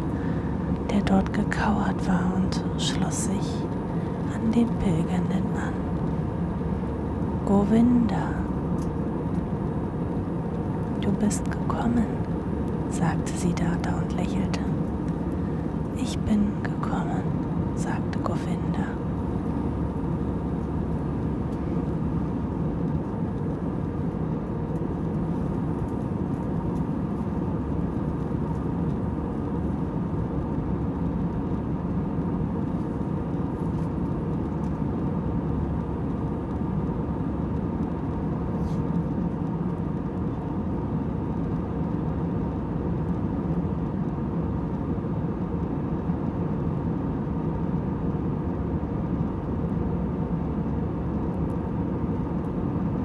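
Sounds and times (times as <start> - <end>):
airliner cabin hum: 0.0 - 53.0
faint constant tones: 0.0 - 53.0.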